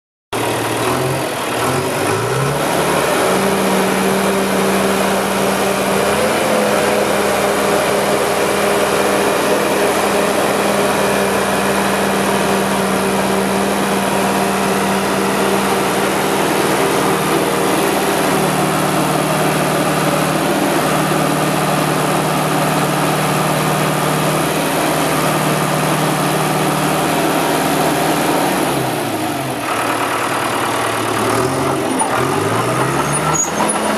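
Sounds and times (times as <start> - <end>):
diesel dozer engine running: 0.4 - 33.9.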